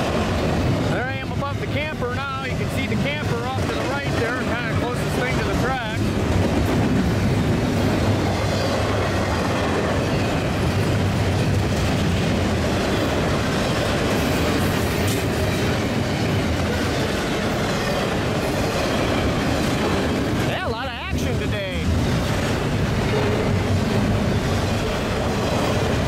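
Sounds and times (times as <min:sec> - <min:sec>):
freight train wheels on track: 0:00.0 - 0:26.0.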